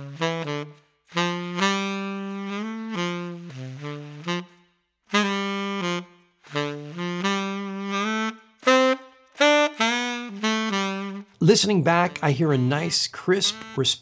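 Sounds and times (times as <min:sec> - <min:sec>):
tenor saxophone playing jazz: 0:00.0 - 0:14.0.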